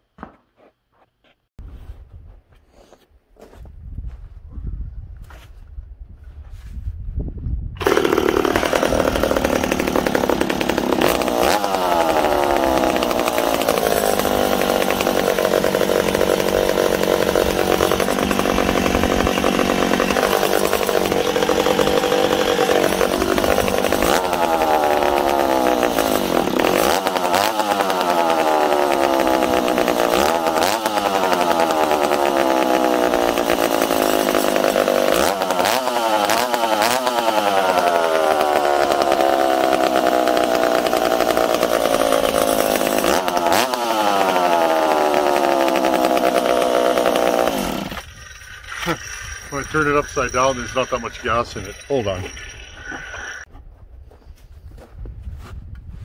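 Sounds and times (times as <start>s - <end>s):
chainsaw revving: 7.8s - 53.5s.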